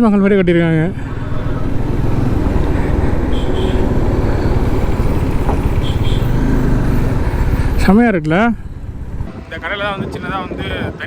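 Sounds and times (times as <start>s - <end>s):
motorcycle engine rumble: 0.0s - 11.0s
wind rush: 0.4s - 11.0s.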